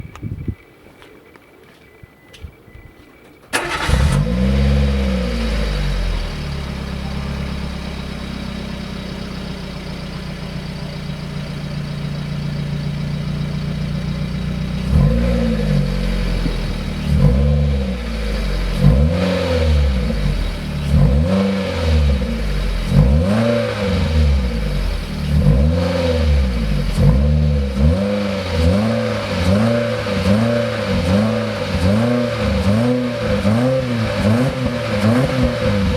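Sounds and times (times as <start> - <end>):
car engine idling and revving: 3.6 - 35.9.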